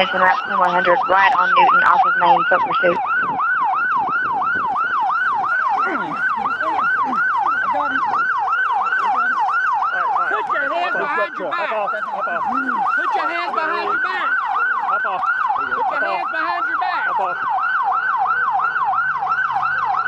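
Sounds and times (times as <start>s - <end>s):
faint voices: 0.0s - 20.0s
police siren yelping: 0.0s - 20.0s.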